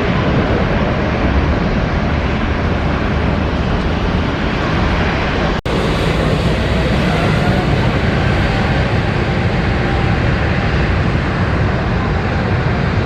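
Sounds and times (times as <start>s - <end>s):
jet engine roar: 0.0s - 13.0s
strong wind: 0.0s - 13.0s.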